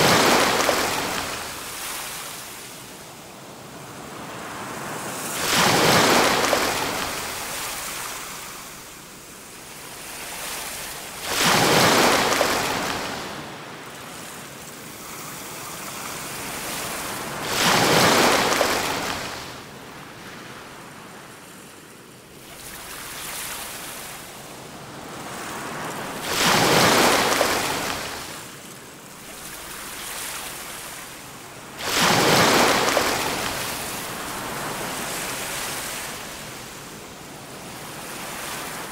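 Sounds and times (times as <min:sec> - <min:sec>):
waves breaking: 0:00.0 - 0:21.1, 0:22.4 - 0:38.9.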